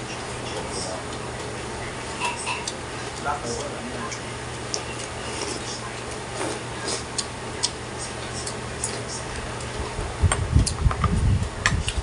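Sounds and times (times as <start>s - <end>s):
chewing: 0.1s - 10.8s.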